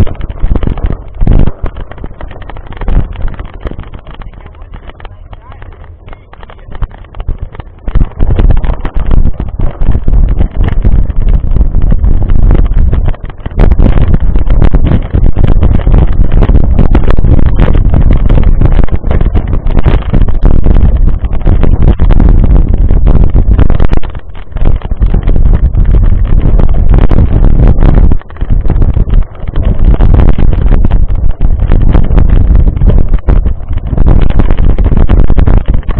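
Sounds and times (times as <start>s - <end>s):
bike tyres rumbling on gravel: 0.0s - 35.9s
wind buffeting microphone: 0.0s - 35.9s.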